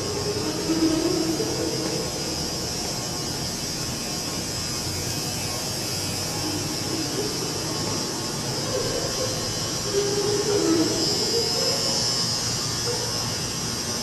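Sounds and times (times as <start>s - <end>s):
escalator mechanical buzz: 0.0s - 14.0s
high whine: 0.0s - 14.0s.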